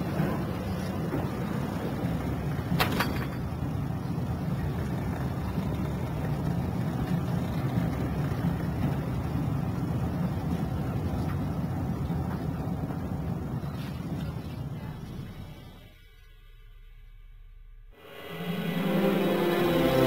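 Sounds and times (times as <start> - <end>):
train rumble inside carriage: 0.0 - 16.6, 18.0 - 20.0.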